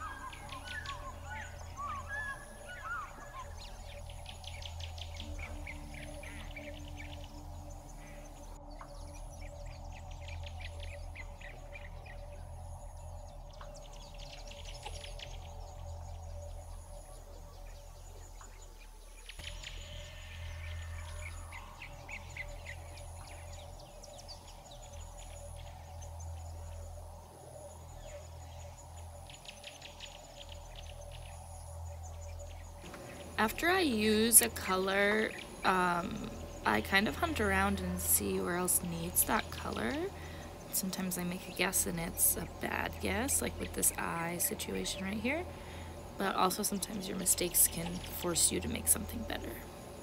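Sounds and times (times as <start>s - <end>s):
birds chirping in rapid trills: 0.0s - 50.0s
steady low hum: 0.0s - 50.0s.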